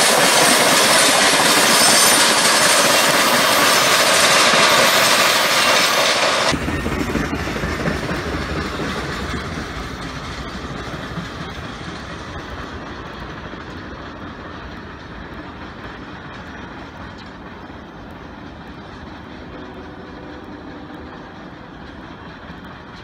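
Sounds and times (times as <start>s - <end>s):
freight train cars rumbling: 0.0s - 23.0s.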